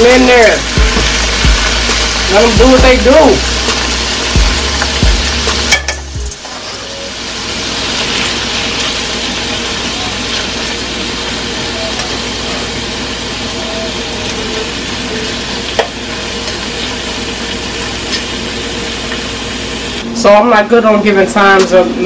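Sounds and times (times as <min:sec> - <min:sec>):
chicken sizzling in a hot pan: 0:00.0 - 0:20.0.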